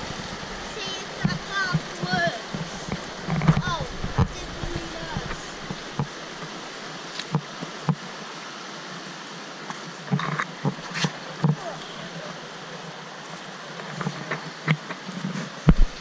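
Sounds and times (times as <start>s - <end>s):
creek flowing over rocks: 0.0s - 16.0s.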